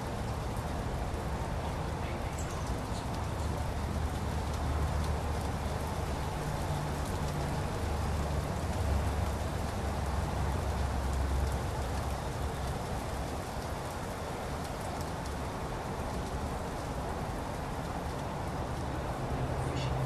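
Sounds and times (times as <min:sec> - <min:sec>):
light rain hissing: 0:00.0 - 0:20.0
water drips ticking: 0:00.1 - 0:20.0.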